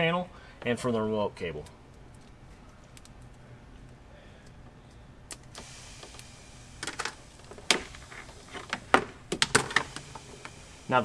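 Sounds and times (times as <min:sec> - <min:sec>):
low steady hum: 0:00.0 - 0:11.0
wire clicks: 0:01.6 - 0:10.6.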